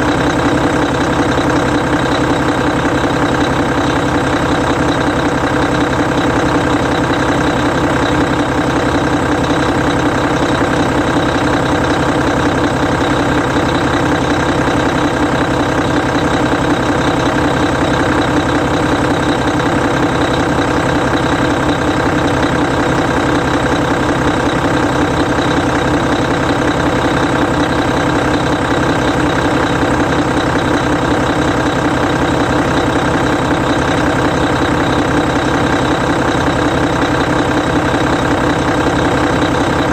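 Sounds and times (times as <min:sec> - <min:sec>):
bus diesel engine idling: 0:00.0 - 0:39.9.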